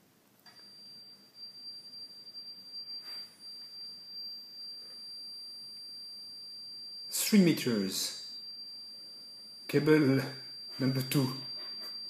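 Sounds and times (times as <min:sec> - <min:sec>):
alarm buzzer steady high tone: 0:00.5 - 0:12.0.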